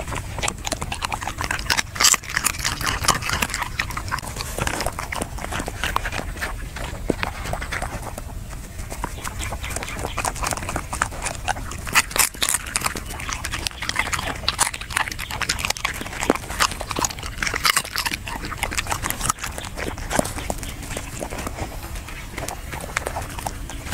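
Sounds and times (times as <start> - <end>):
dog chewing and crunching: 0.0 - 23.9
mouth smacks: 0.0 - 23.9.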